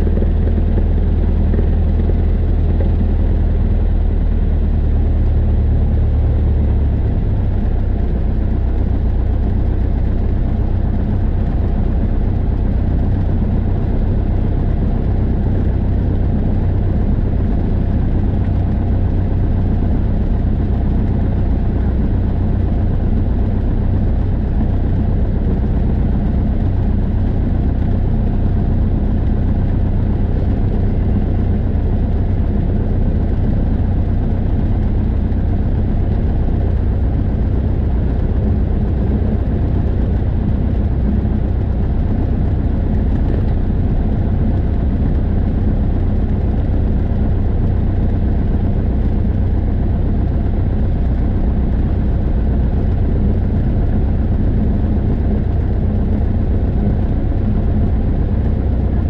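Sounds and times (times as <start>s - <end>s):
aircraft piston engine and propeller: 0.0s - 59.0s.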